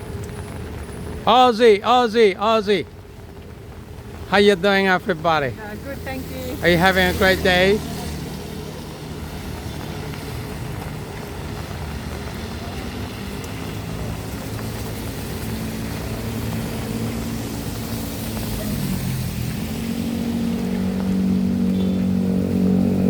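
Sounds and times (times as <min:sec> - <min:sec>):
motor vehicle engine hum: 0:00.0 - 0:23.0.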